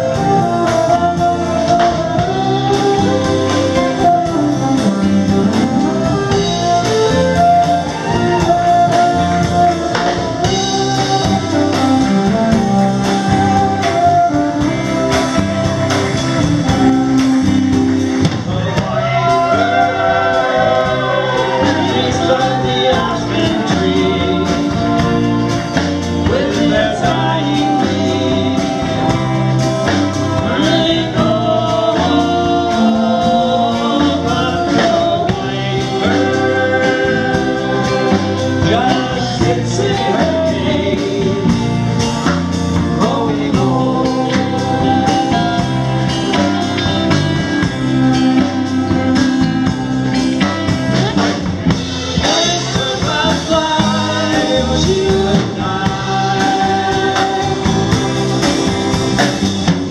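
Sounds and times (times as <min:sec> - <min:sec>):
person singing: 0:00.0 - 0:49.4, 0:52.0 - 0:59.3
bass guitar: 0:00.0 - 0:59.9
electric guitars: 0:00.0 - 0:59.9.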